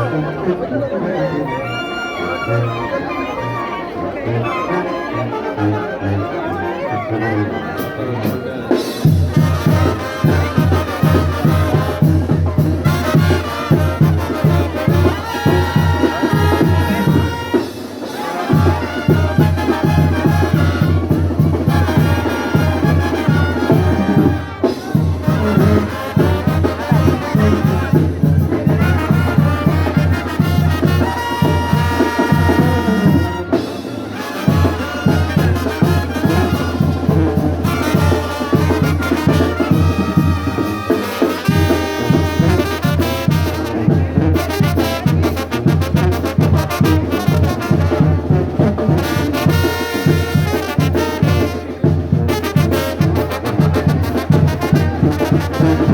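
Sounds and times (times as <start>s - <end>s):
brass band music: 0.0s - 55.9s.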